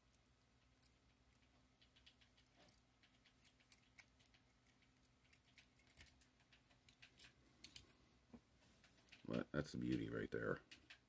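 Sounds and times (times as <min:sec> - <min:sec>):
light ticks and clicks: 0:00.0 - 0:11.0.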